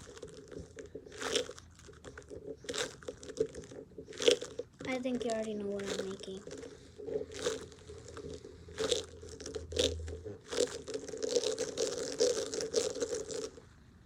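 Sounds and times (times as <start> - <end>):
fidget toy crunching and crinkling: 0.0 - 13.7.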